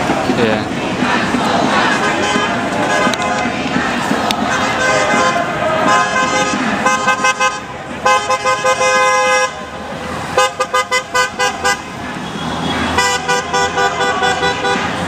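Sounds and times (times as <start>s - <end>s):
car horns honking: 1.8s - 3.6s, 4.2s - 15.0s.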